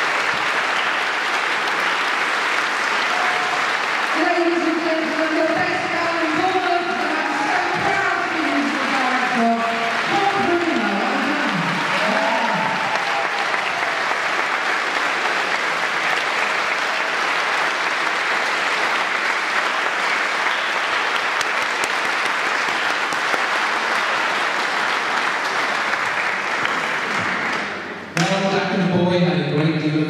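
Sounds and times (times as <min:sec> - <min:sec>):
audience applauding: 0:00.0 - 0:28.5.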